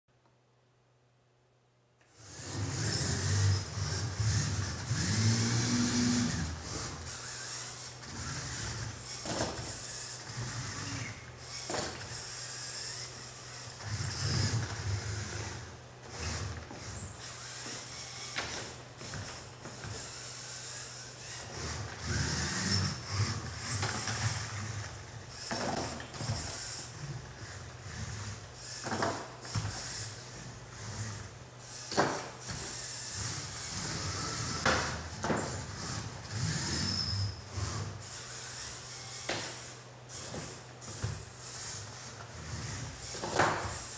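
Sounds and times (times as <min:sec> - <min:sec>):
electric motors whirring: 0:02.1 - 0:43.9
gears clicking and knocking: 0:02.2 - 0:43.9.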